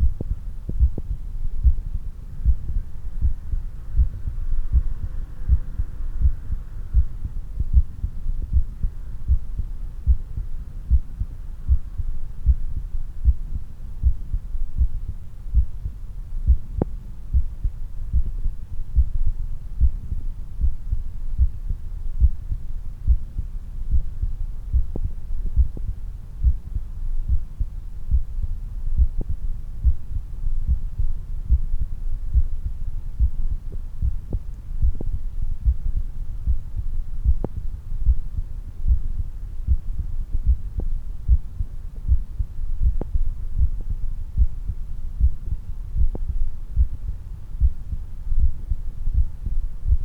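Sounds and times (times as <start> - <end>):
heartbeat thumps: 0.0 - 50.0
low rumble: 0.0 - 50.0.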